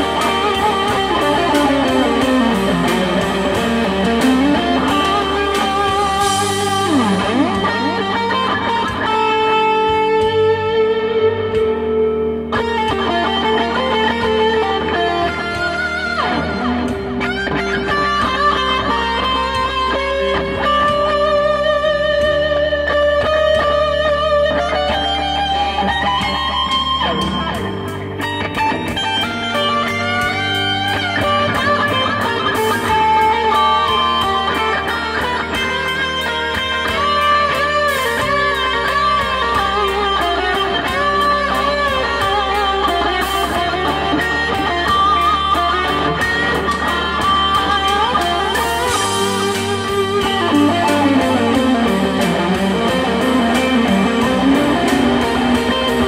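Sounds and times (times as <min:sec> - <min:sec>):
country-rock backing track: 0:00.0 - 0:56.0
electric guitar lead: 0:00.0 - 0:56.0.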